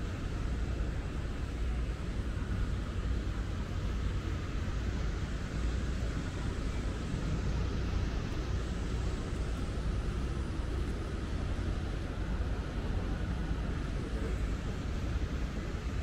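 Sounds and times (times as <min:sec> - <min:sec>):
city ambience rumble: 0:00.0 - 0:16.0.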